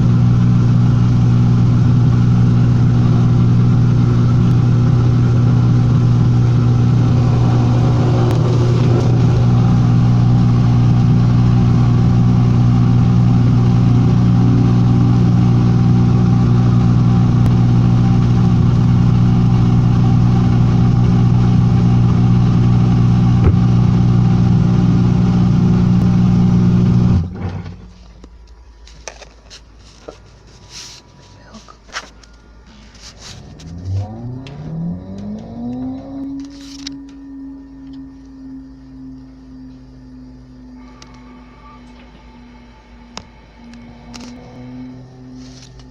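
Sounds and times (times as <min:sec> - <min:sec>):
washing machine motor hum: 0:00.0 - 0:28.7, 0:32.6 - 0:45.9.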